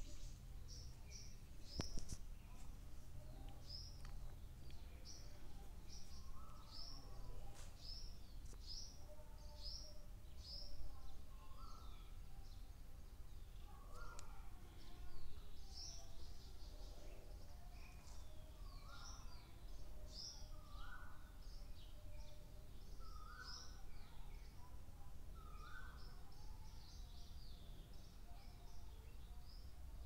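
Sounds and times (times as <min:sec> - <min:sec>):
birds chirping: 0:00.0 - 0:29.7
faint low hum: 0:00.0 - 0:30.0.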